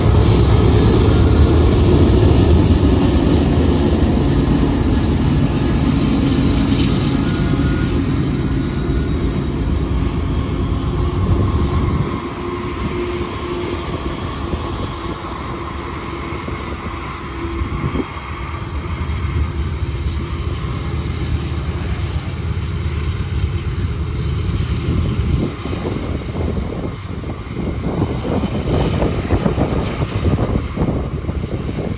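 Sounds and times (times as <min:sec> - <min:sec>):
locomotive engine running hard: 0:00.0 - 0:31.9.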